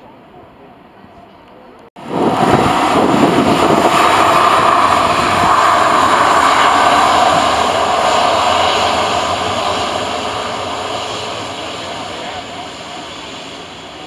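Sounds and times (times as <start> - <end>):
jet engines rushing and whining: 2.0 - 14.0.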